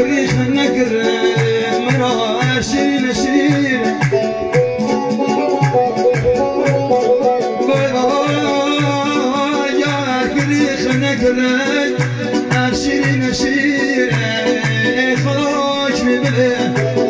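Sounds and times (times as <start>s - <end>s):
man singing: 0.0s - 5.2s, 7.1s - 17.0s
electronic keyboard: 0.0s - 17.0s
low thumping beat: 0.0s - 17.0s.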